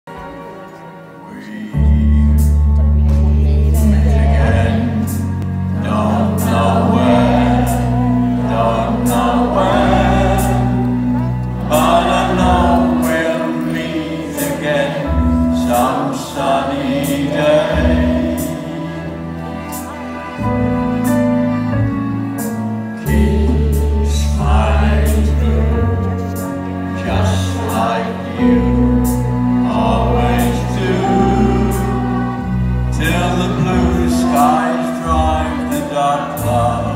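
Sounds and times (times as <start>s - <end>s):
held bass notes: 1.7s - 36.9s
children's choir singing: 2.9s - 20.4s, 23.0s - 36.9s.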